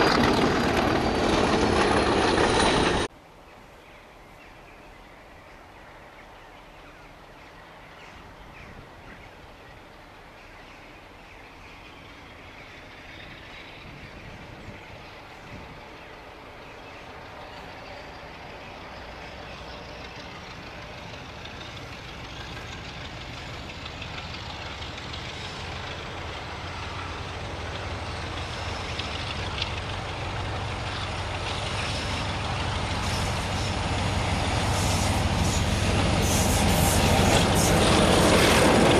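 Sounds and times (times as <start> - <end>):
diesel locomotive engine: 0.0 - 3.1, 6.8 - 38.9.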